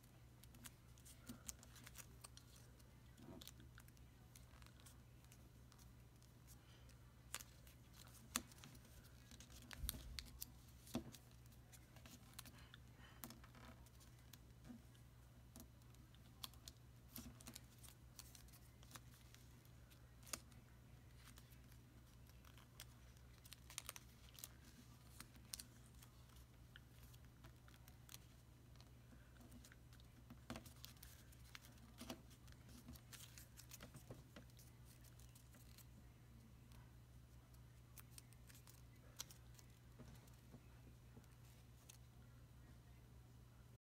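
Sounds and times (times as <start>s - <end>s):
paper crinkling and creasing: 0.4s - 14.9s, 15.8s - 36.8s, 37.6s - 42.0s.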